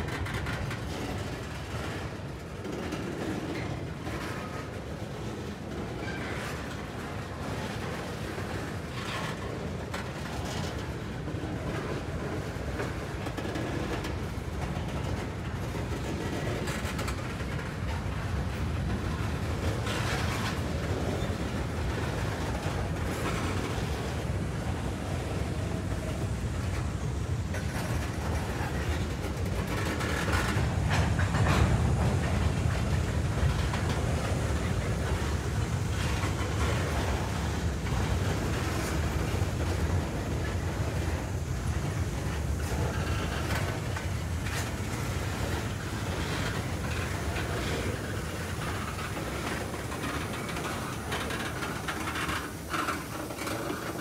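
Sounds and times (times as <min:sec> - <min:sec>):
steel wheels rumbling on rail: 0:00.0 - 0:54.0
wheels clacking over rail joints: 0:00.0 - 0:54.0.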